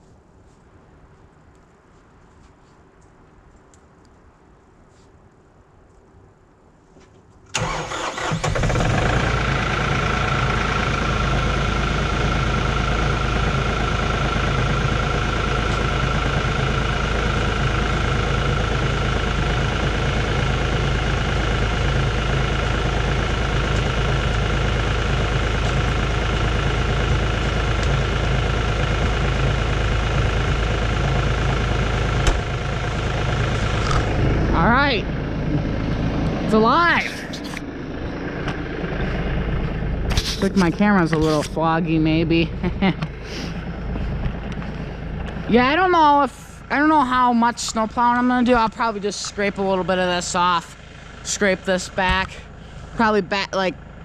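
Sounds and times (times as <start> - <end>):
tractor diesel engine idling: 7.5 - 54.0
high whine: 9.1 - 53.8.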